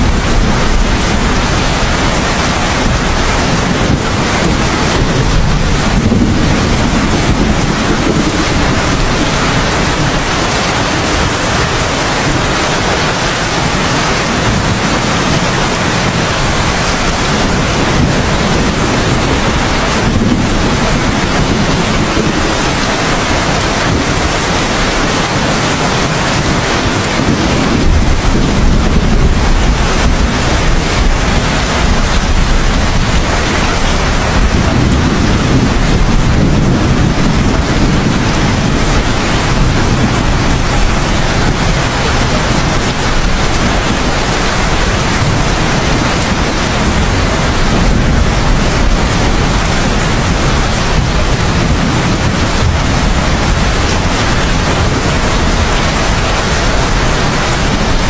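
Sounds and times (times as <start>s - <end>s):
heavy rain: 0.0s - 58.0s
low rumble of thunder: 0.0s - 58.0s.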